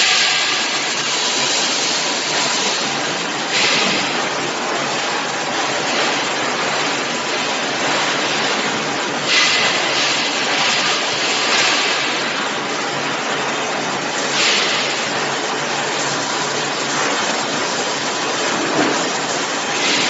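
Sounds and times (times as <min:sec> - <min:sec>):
industrial machinery running: 0:00.0 - 0:20.0.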